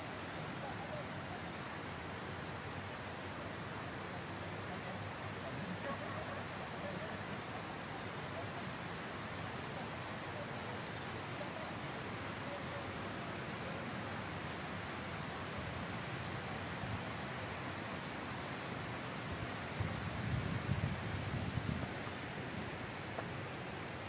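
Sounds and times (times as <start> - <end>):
insect drone: 0.0 - 24.0
outdoor ambience hiss: 0.0 - 24.0.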